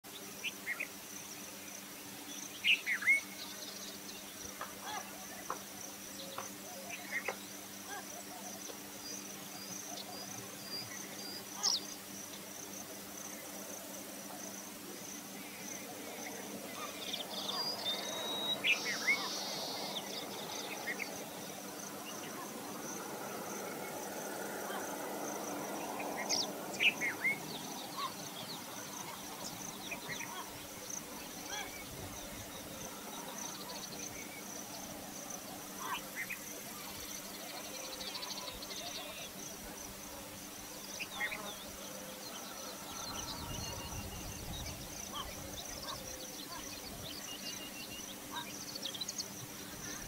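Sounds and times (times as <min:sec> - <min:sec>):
high-pitched insect trill: 0:02.4 - 0:50.0.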